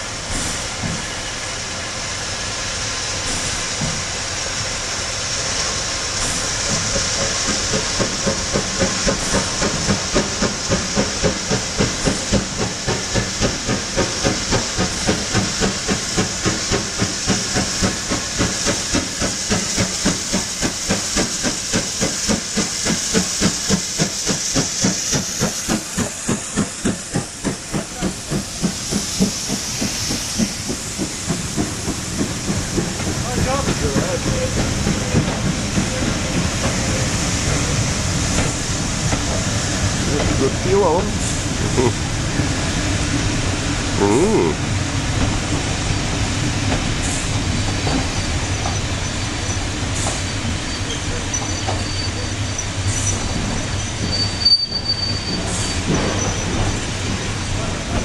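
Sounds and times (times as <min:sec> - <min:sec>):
steam locomotive hiss: 0:00.0 - 0:58.0.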